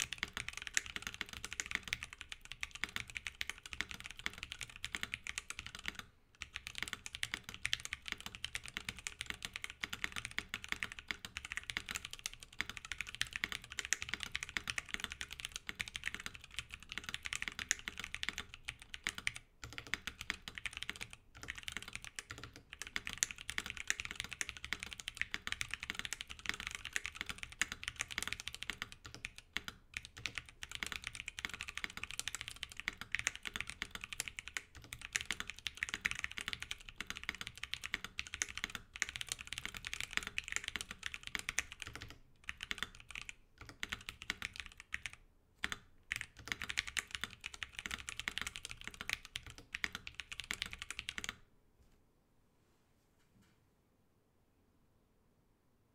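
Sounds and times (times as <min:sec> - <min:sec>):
fast keyboard typing: 0:00.0 - 0:51.4.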